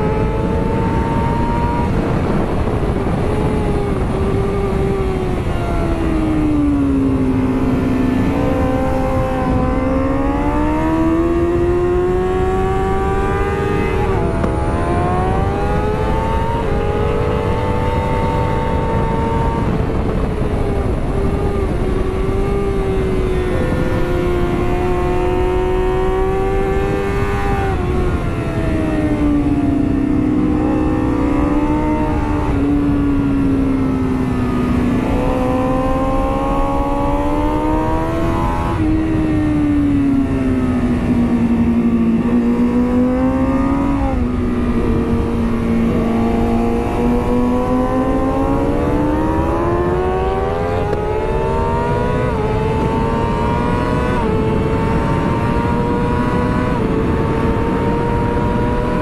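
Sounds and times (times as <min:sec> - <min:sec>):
motorcycle engine at high revs: 0:00.0 - 0:59.0
wind rush: 0:00.0 - 0:59.0.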